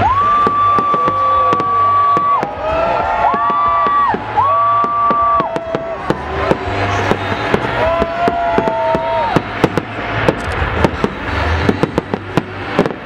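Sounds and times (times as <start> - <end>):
fireworks bangs and crackles: 0.0 - 13.0
whistling fireworks: 0.0 - 13.0.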